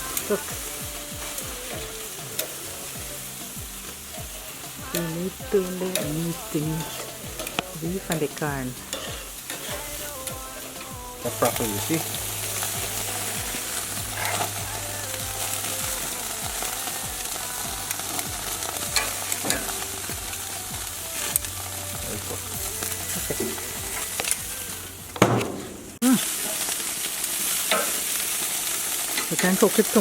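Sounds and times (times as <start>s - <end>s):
meat sizzling on a grill: 0.0s - 30.0s.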